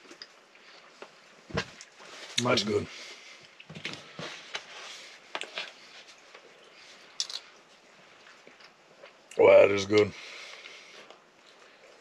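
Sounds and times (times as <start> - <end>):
faint rustles of eating: 0.0 - 12.0.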